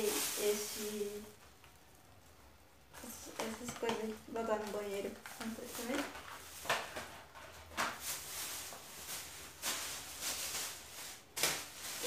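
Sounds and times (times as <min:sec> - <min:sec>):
plastic bags rustling: 0:00.0 - 0:02.3, 0:03.0 - 0:12.0.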